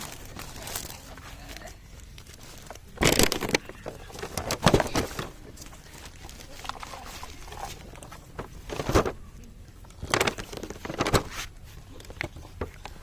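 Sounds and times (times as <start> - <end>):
knocks and rustling of objects: 0.0 - 13.0.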